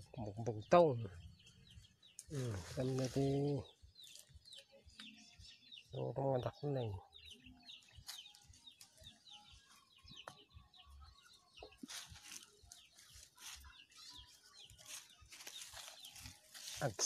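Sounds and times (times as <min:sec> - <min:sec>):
high bird chirping: 0:00.0 - 0:17.0.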